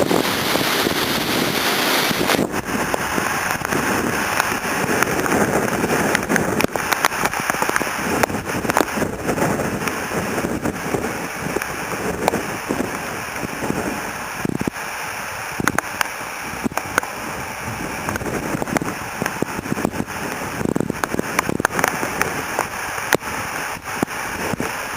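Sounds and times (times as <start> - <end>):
rain ticking: 0.0 - 24.9
wind buffeting microphone: 0.0 - 24.9.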